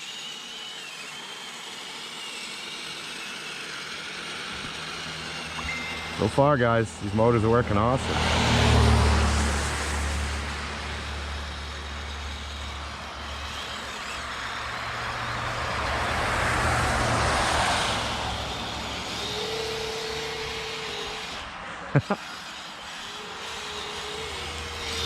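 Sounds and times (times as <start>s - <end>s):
toy snow vehicle motors running: 0.0s - 25.0s.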